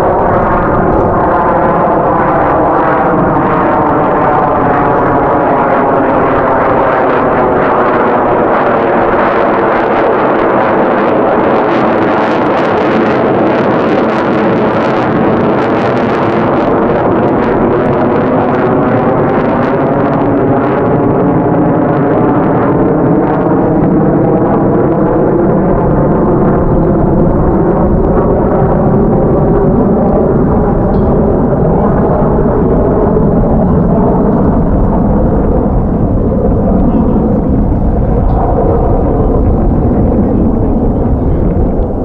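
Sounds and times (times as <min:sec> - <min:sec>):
jet engines roaring in flight: 0:00.0 - 0:42.0.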